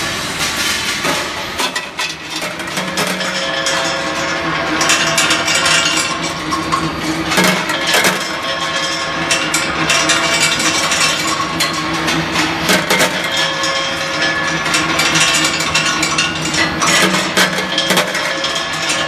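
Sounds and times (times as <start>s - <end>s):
steel balls clanking against steel: 1.1s - 19.0s.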